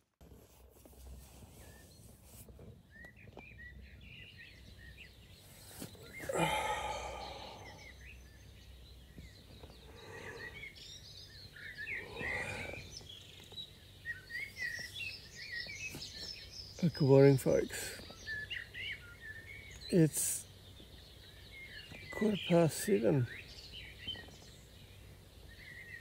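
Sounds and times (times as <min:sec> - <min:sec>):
birds chirping: 0:01.2 - 0:26.0.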